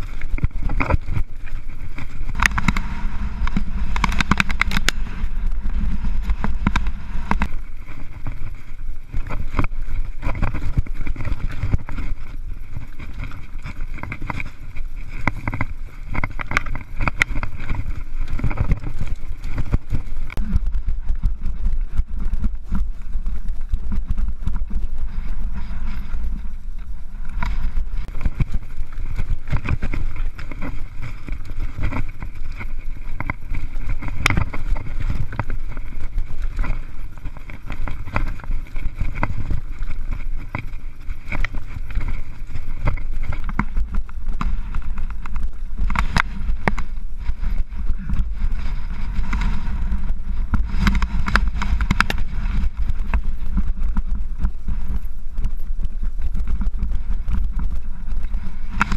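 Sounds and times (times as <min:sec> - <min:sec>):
bike rattling over stones: 0:00.0 - 0:58.9
wind rumble on microphone: 0:00.0 - 0:58.9.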